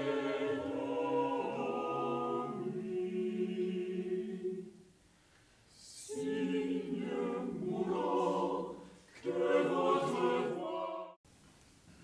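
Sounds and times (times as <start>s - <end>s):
mixed choir singing a cappella: 0.0s - 4.9s, 5.7s - 11.2s.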